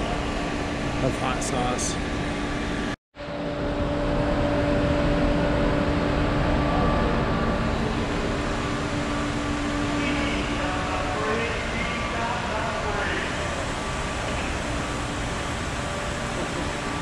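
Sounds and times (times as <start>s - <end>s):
grocery store background hum: 0.0s - 17.0s.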